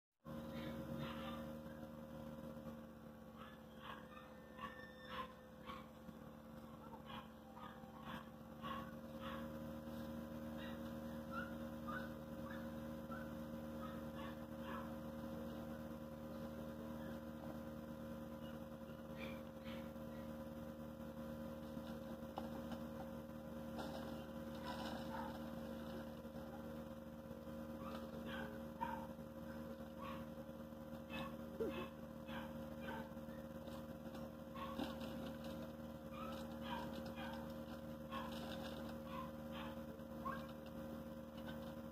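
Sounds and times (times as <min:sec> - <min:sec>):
electrical mains hum: 0:00.2 - 0:41.9.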